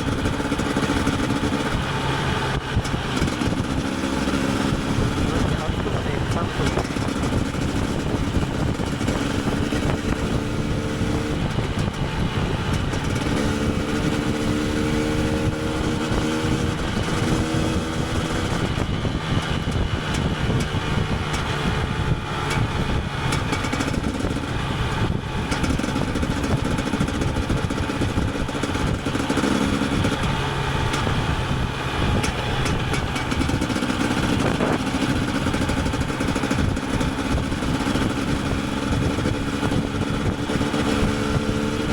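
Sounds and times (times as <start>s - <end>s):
two-stroke motorcycle engine revving: 0.0s - 41.9s.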